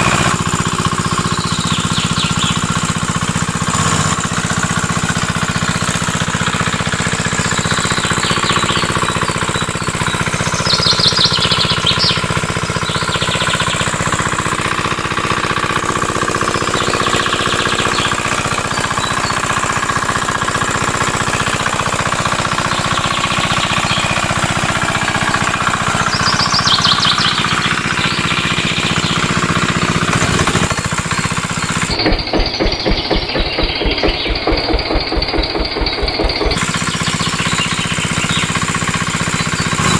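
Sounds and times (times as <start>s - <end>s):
model engine chugging: 0.0s - 39.9s.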